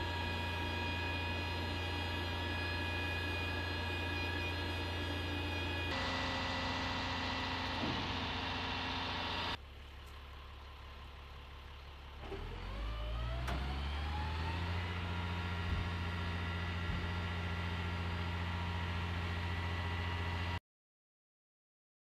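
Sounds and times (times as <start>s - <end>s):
heavy truck diesel engine: 0.0s - 20.6s.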